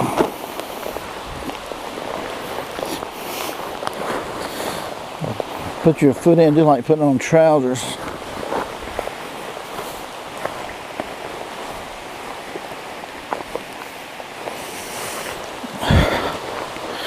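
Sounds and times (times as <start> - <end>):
raindrops tapping close by: 0.0 - 17.0
steady rain falling: 0.0 - 17.0.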